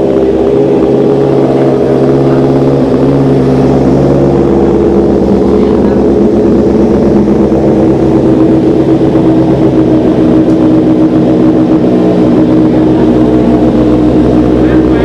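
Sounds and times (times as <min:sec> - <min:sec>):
motorcycle engine idling loudly: 0:00.0 - 0:15.0.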